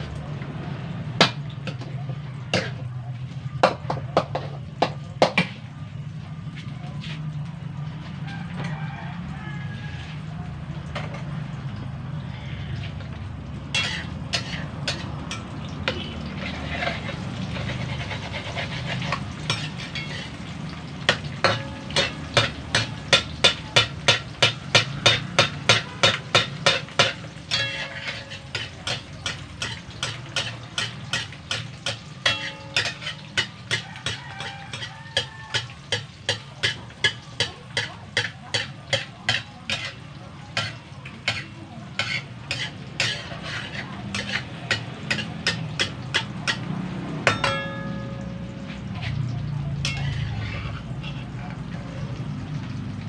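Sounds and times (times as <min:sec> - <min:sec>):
metal spatula scraping a pan: 0:01.2 - 0:05.7, 0:12.2 - 0:52.8
egg sizzling: 0:09.4 - 0:53.0.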